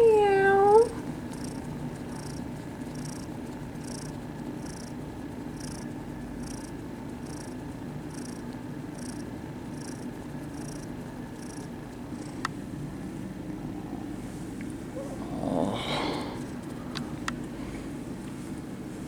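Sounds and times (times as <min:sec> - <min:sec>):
kitten purring: 0:00.0 - 0:18.2.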